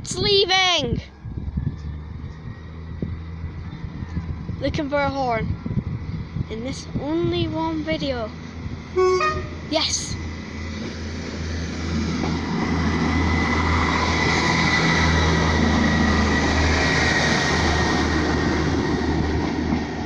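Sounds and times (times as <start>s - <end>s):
diesel train engine rumbling: 0.0s - 20.0s.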